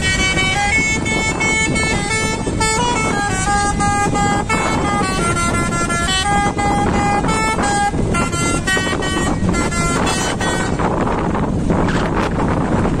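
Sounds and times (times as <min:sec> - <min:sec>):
multi-tone musical horn melody: 0:00.0 - 0:11.4
low rumble of vehicle: 0:00.0 - 0:13.0.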